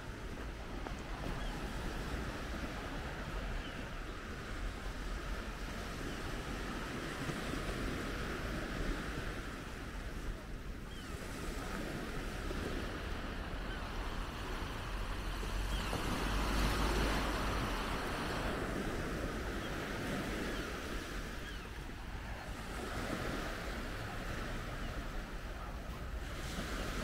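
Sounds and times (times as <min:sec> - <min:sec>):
small waves breaking on shore: 0:00.0 - 0:27.0.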